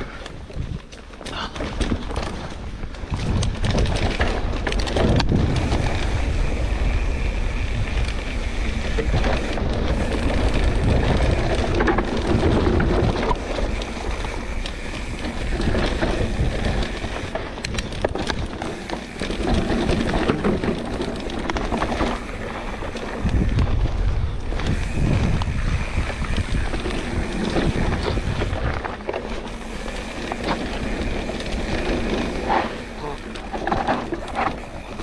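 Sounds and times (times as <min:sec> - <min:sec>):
bike knocks and rattles: 0:00.0 - 0:35.0
bike tyres rolling on dirt trail: 0:00.0 - 0:35.0
wind buffeting microphone: 0:00.0 - 0:35.0.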